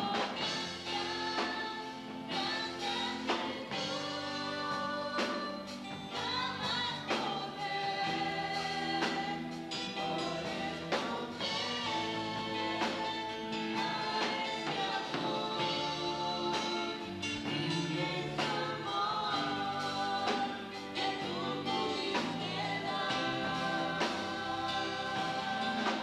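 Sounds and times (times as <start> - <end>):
group singing a gospel hymn: 0.0 - 26.0
instrumental accompaniment with beat: 0.0 - 26.0.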